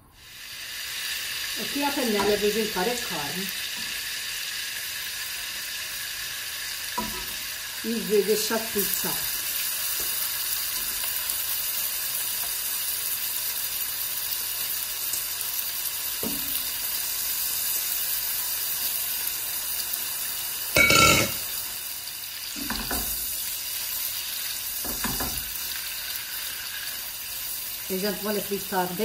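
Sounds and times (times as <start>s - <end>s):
beef sizzling in a pot: 0.0s - 29.0s.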